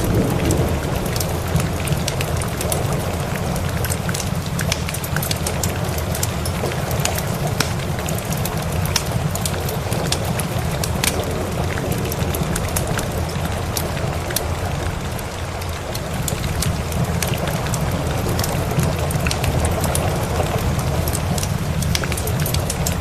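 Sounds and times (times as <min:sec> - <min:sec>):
steady rain: 0:00.0 - 0:23.0
wood fire crackling and popping: 0:00.0 - 0:23.0.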